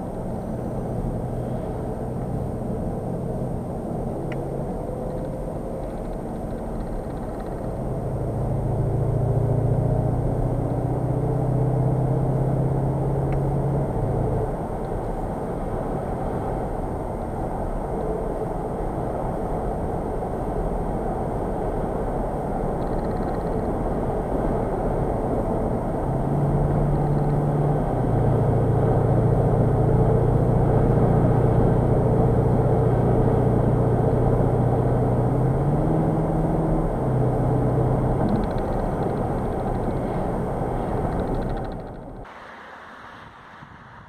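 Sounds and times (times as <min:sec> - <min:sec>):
car engine drone: 0:00.0 - 0:44.0
tyre and road noise: 0:00.0 - 0:44.0.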